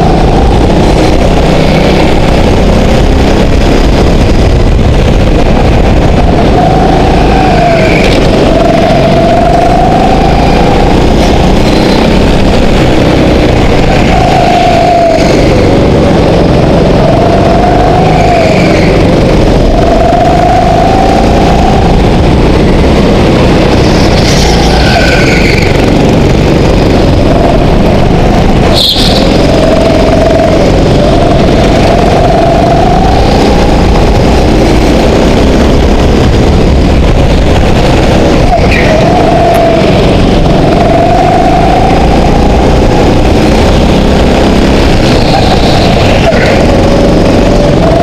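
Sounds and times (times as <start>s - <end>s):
go-kart engine revving: 0.0s - 48.0s.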